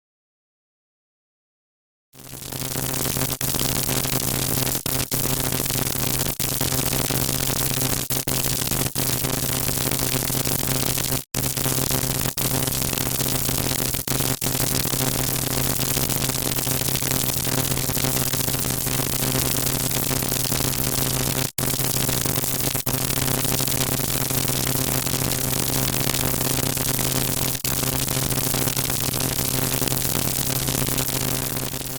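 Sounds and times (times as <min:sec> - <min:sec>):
electrical arc crackling: 0:02.3 - 0:31.9.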